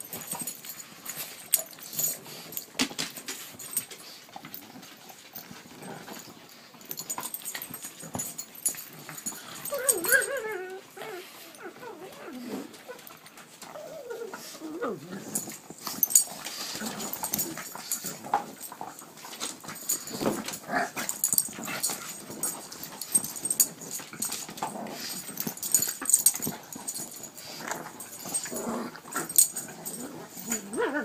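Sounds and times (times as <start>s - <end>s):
dogs scuffling: 0.0s - 30.9s
dogs growling and yapping: 0.0s - 31.0s.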